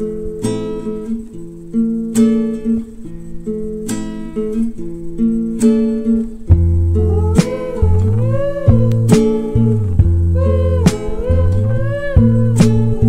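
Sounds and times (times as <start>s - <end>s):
strummed guitar chords: 0.0s - 13.0s.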